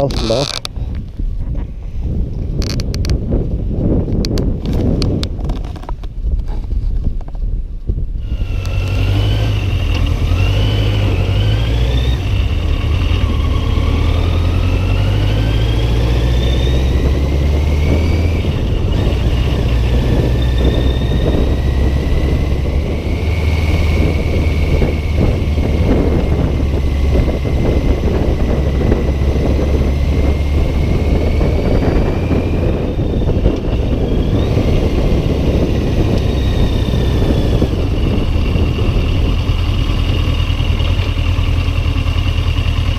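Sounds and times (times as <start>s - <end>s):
wind buffeting microphone: 0.0s - 41.5s
motorcycle engine on the road: 0.0s - 42.9s.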